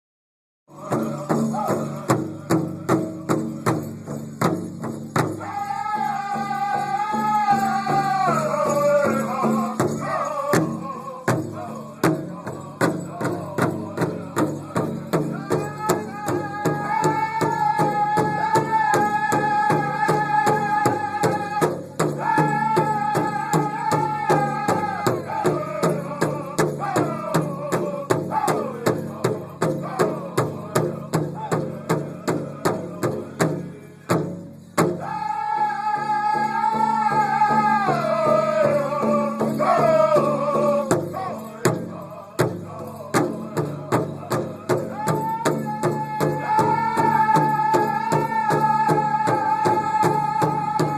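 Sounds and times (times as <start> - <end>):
group singing in high voices: 0.7 - 3.9, 5.4 - 33.9, 35.0 - 50.9
big drum steady beat: 0.7 - 50.9.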